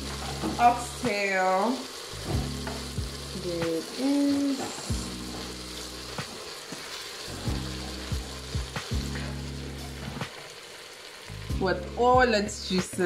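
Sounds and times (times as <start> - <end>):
sauce sizzling and bubbling: 0.0 - 13.0.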